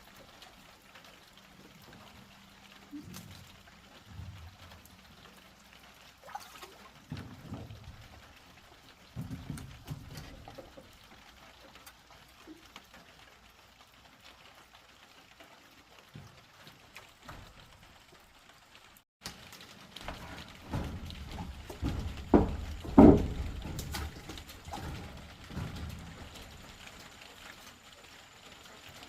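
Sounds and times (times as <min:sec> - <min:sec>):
light rain: 0:00.0 - 0:29.0
water dripping and trickling: 0:00.0 - 0:29.0.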